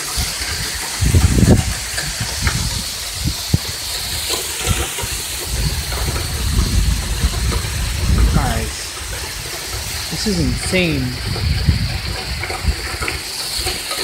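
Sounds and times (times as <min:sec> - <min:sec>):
heavy rain hiss: 0:00.0 - 0:14.0
wind gusts on microphone: 0:00.0 - 0:14.0.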